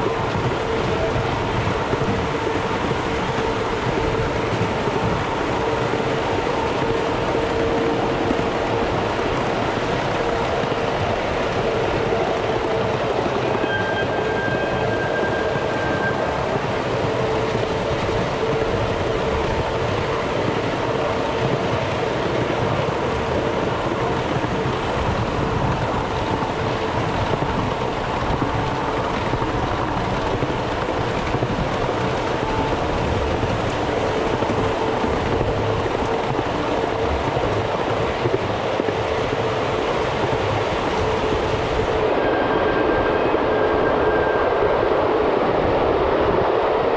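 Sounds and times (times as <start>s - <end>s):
wheels rumbling on rails: 0.0s - 46.9s.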